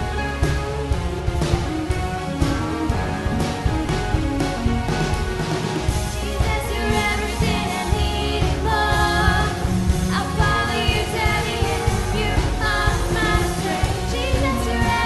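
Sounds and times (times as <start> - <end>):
band playing worship song: 0.0 - 15.0
steady low bass: 0.0 - 15.0.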